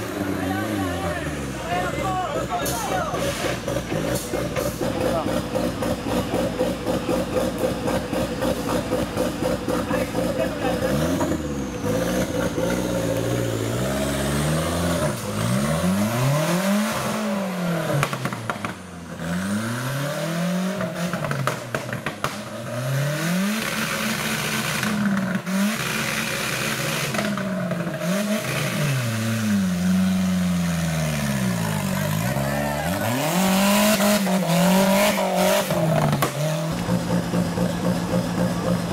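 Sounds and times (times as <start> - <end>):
engine revving hard: 0.0 - 21.7, 22.4 - 37.7
tyres churning through mud: 0.0 - 38.9.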